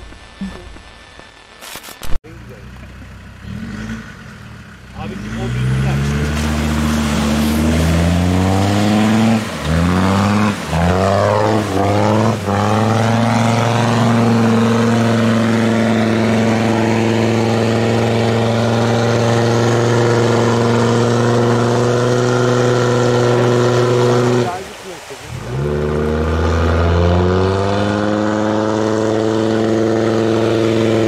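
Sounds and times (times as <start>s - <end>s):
diesel engine revving: 2.3s - 31.0s.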